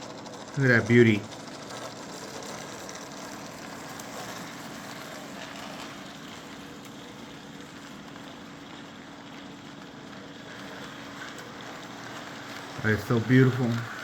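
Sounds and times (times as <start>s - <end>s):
electric motor hum: 0.0s - 14.0s
wheels rattling on rails: 0.0s - 14.0s.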